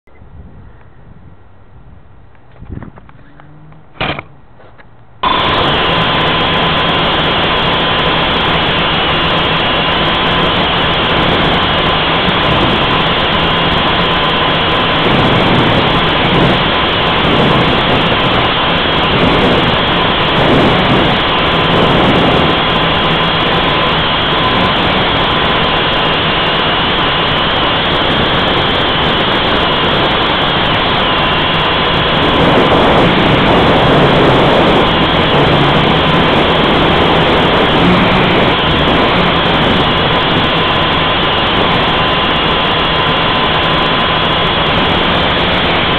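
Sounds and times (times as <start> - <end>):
quadcopter motors whining: 5.2 - 45.9.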